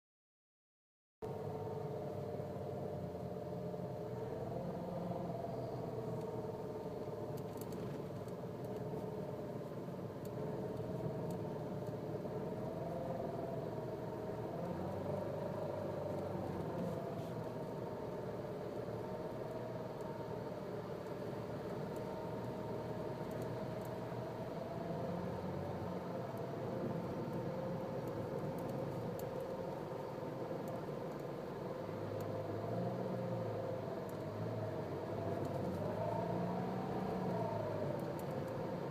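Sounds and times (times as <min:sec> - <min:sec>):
low engine hum: 0:01.2 - 0:38.9
transmission whining: 0:01.2 - 0:38.9.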